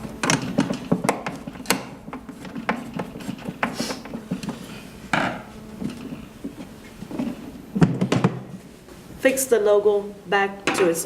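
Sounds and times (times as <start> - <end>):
scraping rub: 0.0 - 9.0.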